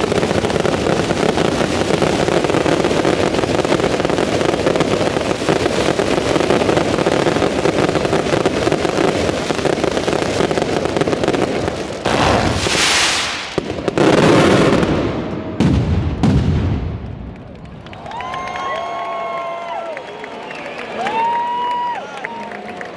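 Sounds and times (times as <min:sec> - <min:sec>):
loud firework bangs: 0:00.0 - 0:19.6
fireworks crackling explosions: 0:00.0 - 0:20.0.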